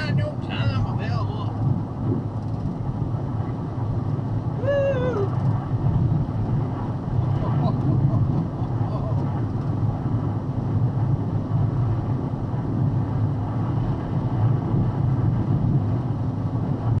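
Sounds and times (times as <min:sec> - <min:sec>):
truck engine and road rumble: 0:00.0 - 0:17.0
wind buffeting truck: 0:00.0 - 0:17.0.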